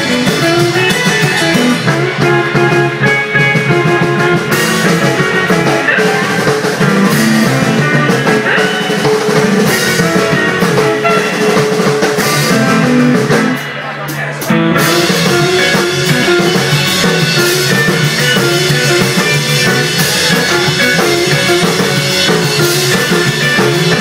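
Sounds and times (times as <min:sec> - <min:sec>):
drum kit: 0:00.0 - 0:24.0
electric bass: 0:00.0 - 0:24.0
electric guitar lead melody: 0:00.0 - 0:24.0.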